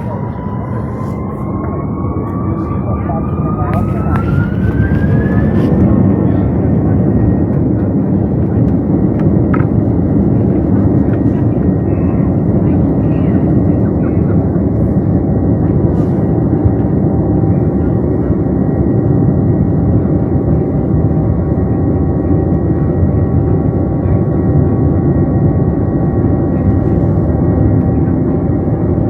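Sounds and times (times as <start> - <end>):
airplane cabin engine drone: 0.0 - 29.0.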